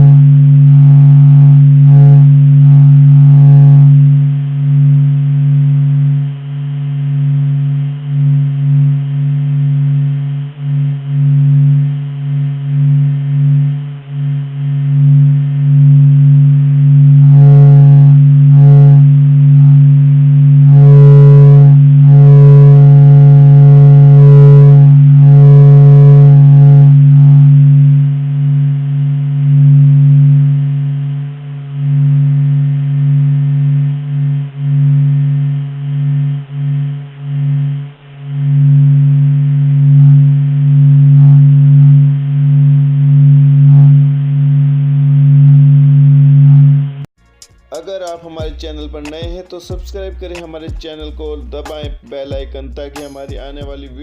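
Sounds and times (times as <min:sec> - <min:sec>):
higher wavering tone: 0:00.0 - 0:47.1
low electronic drone: 0:00.0 - 0:54.0.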